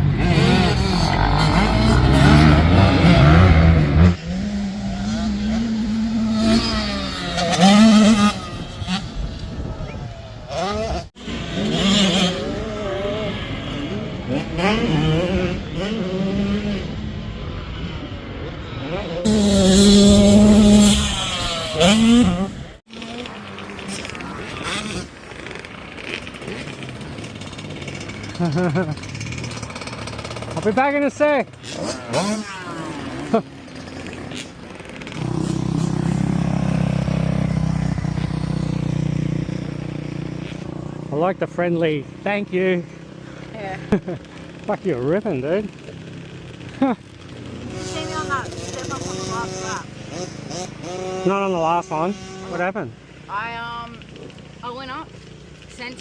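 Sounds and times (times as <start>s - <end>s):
motocross bikes revving: 0.0s - 56.0s.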